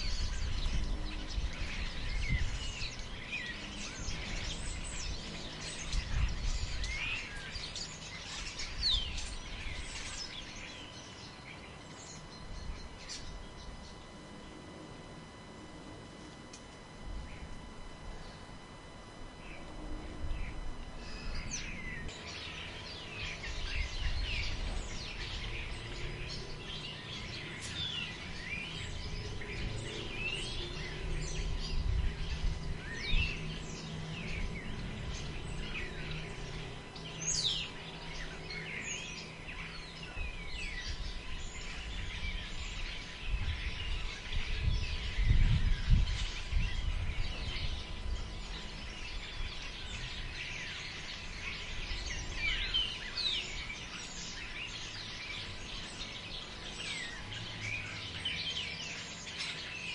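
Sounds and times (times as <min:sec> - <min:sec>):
wind gusting through forest: 0:00.0 - 0:18.4, 0:19.2 - 0:57.8
small birds chirping: 0:00.0 - 0:59.9.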